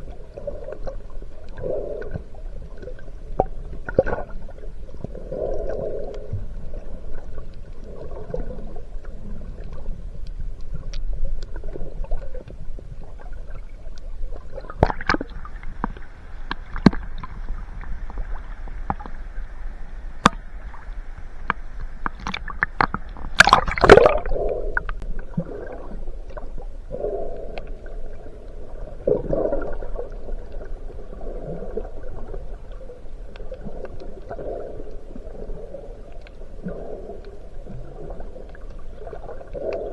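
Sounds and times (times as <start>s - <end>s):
underwater gurgling bubbles: 0.0s - 39.9s.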